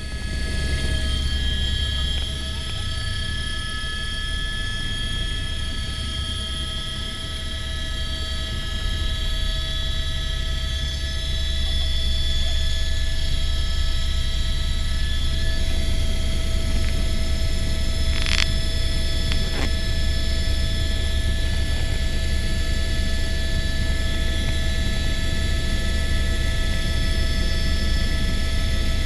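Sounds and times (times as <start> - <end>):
helicopter engine and rotor: 0.0 - 29.0.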